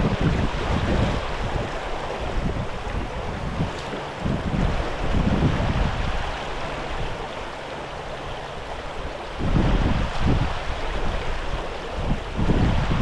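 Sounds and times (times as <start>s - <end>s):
river water rushing over gravel: 0.0s - 13.0s
wind buffeting the microphone: 0.0s - 13.0s.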